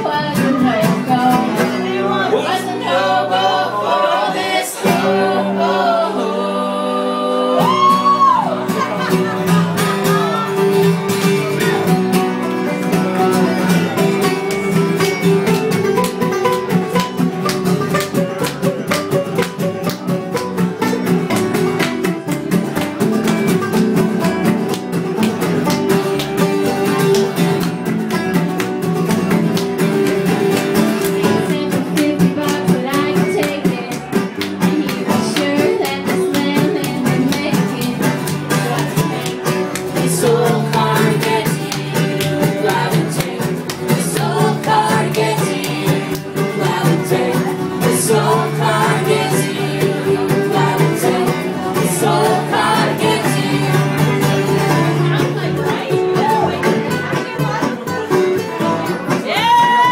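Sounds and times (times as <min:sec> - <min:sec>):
rapid banjo picking: 0:00.0 - 0:59.9
string band playing folk: 0:00.0 - 0:59.9
upright bass: 0:00.0 - 0:59.9.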